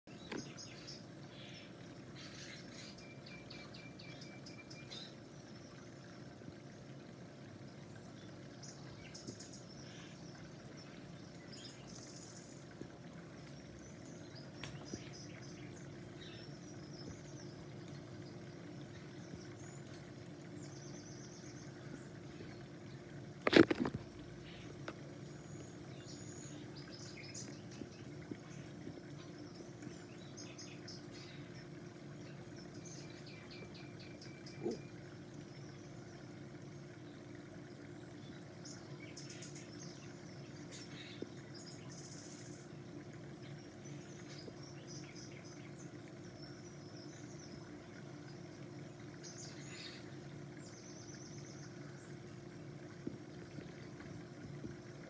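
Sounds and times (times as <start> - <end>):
steady low hum: 0.1 - 55.0.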